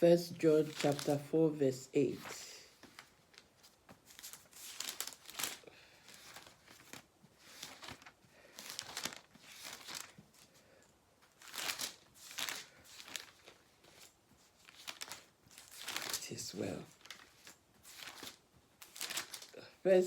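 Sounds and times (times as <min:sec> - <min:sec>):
paper pages rustling: 0:00.3 - 0:10.6, 0:11.2 - 0:19.8.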